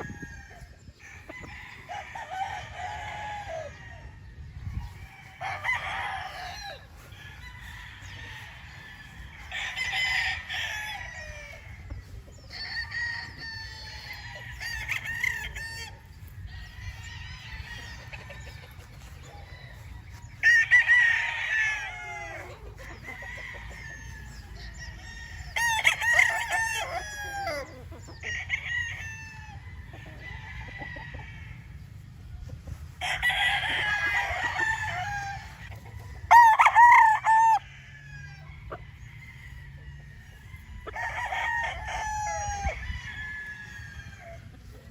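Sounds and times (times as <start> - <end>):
roosters crowing: 0.0 - 44.9.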